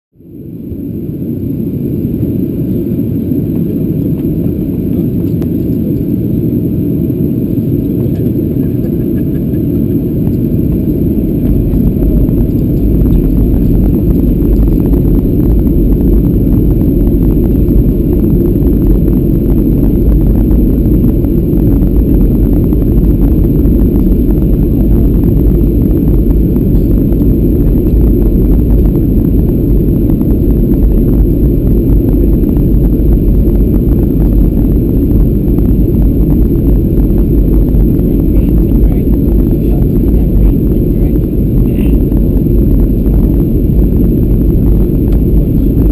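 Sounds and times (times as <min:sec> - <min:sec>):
deep rumble: 0:00.1 - 0:45.9
aircraft cabin engine noise: 0:00.2 - 0:45.9.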